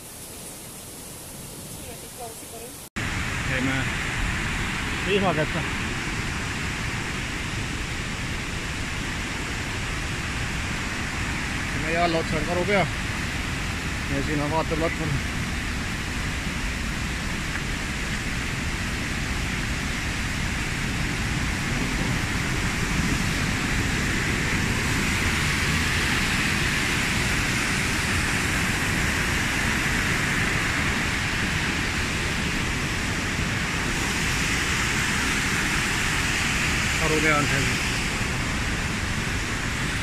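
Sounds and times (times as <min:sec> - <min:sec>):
stream cascading over boulders: 0:00.0 - 0:40.0.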